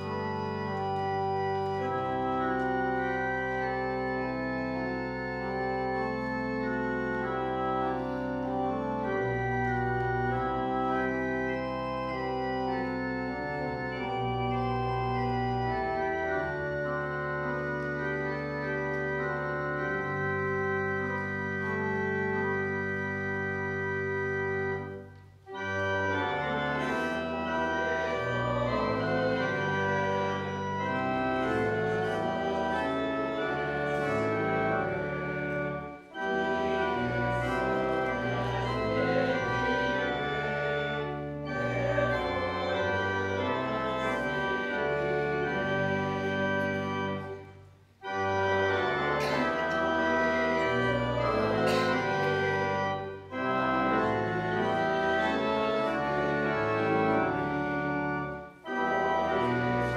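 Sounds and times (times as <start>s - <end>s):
church organ playing a hymn: 0.0s - 59.9s.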